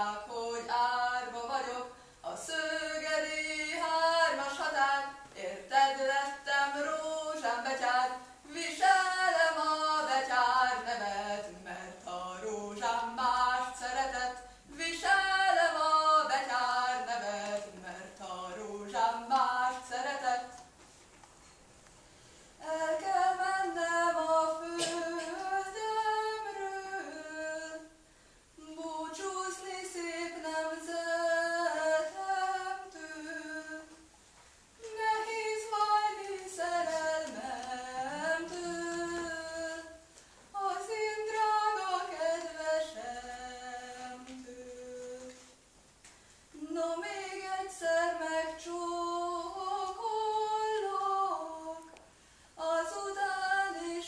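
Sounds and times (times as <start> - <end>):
woman singing unaccompanied: 0.0 - 20.8, 22.6 - 28.0, 28.6 - 34.1, 34.8 - 45.6, 46.5 - 52.0, 52.6 - 54.0.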